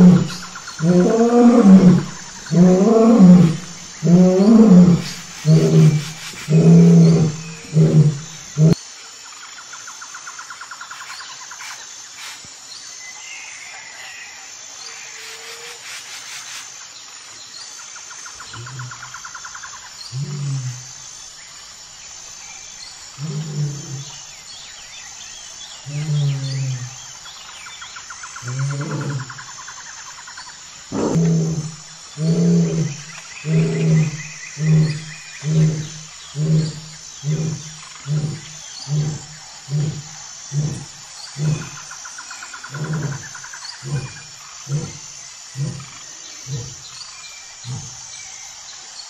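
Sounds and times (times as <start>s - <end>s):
insect trills: 0.0s - 49.0s.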